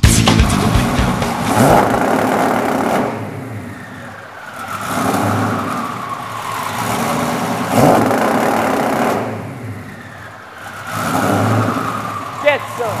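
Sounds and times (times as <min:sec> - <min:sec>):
car engine revving hard: 0:00.4 - 0:13.0.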